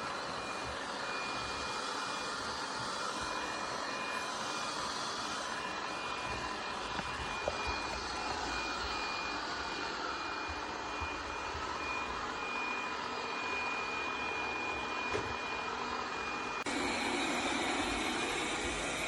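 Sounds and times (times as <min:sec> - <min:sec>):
robot vacuum cleaner running: 0:00.0 - 0:19.0.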